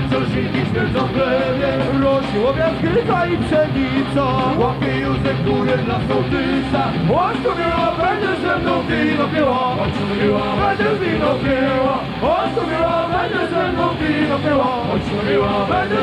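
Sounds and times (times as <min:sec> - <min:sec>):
man's voice: 0:00.0 - 0:16.0
rock band playing: 0:00.0 - 0:16.0.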